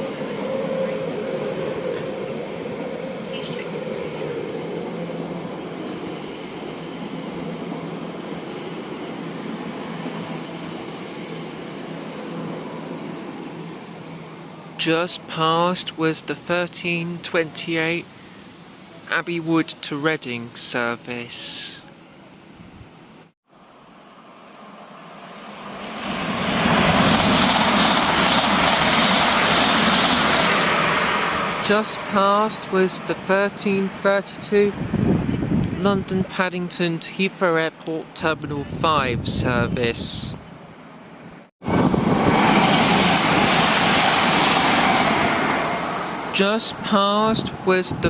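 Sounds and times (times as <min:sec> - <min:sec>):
electric train passing: 0:00.0 - 0:35.8, 0:40.4 - 0:48.0.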